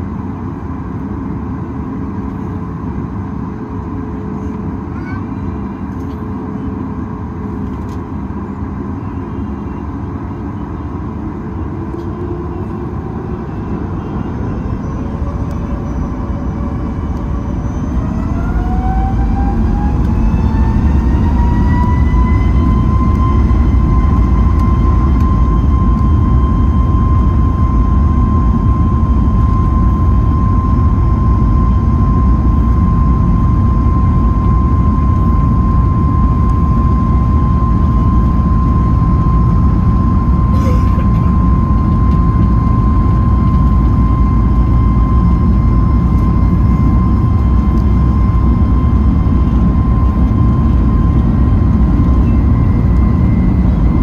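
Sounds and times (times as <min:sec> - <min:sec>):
deep rumble of takeoff roll: 0:00.0 - 0:54.0
jet engine whine: 0:00.0 - 0:54.0.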